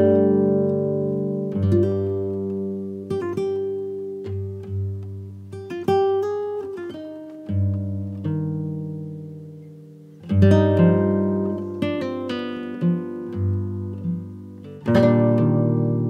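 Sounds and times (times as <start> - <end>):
plucked acoustic guitar melody: 0.0 - 16.0.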